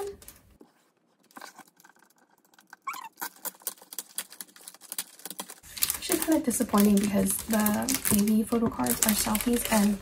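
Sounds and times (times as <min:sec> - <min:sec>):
plastic sleeve crinkling: 0:01.1 - 0:10.0.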